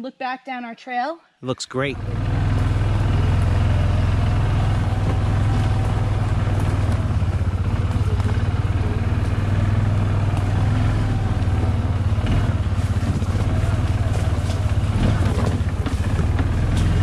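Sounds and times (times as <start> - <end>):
atv engine droning: 1.7 - 17.0.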